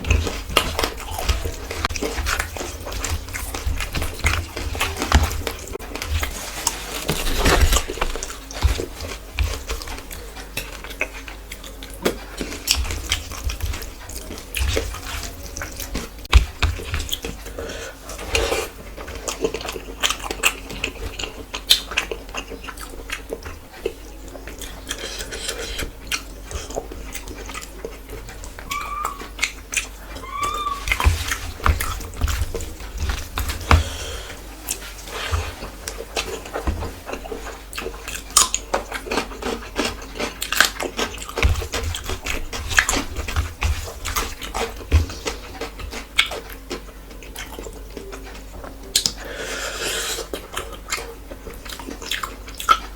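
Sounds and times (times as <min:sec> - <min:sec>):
chewing and wet mouth sounds: 0:00.0 - 0:52.9.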